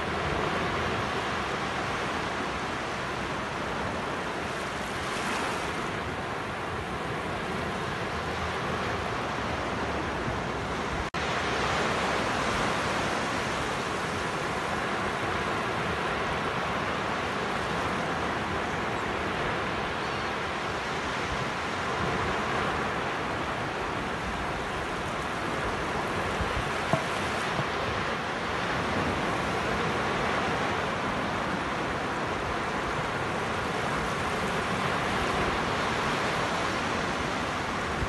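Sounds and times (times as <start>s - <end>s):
small waves breaking on beach: 0.0s - 38.0s.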